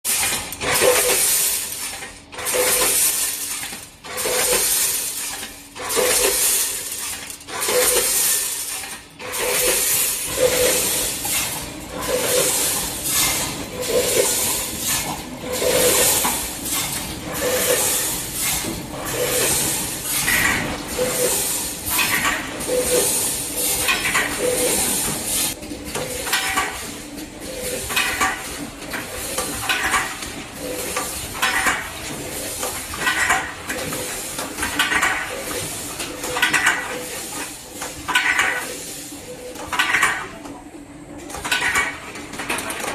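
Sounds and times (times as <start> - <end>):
filling machine metallic clatter: 0.1 - 42.9.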